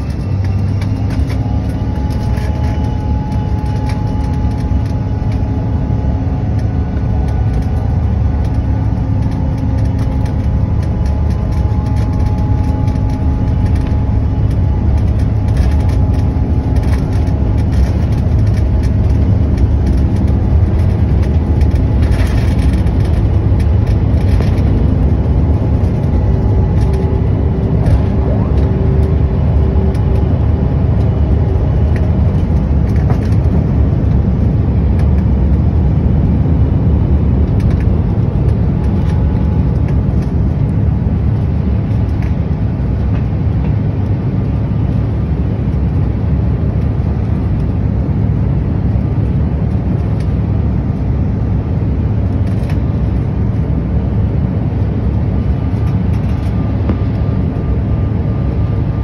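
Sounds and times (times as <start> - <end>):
jet engines roaring in cabin: 0.0 - 59.0.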